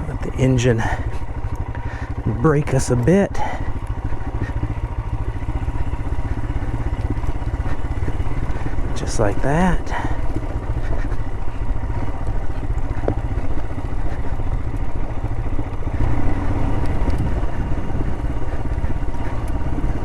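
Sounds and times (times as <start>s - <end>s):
motorcycle engine engine-braking: 0.0s - 20.0s.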